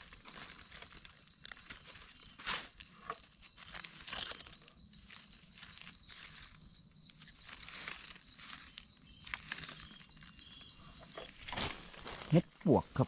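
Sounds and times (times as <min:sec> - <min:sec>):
dry leaves rustling and crackling: 0:00.0 - 0:10.7.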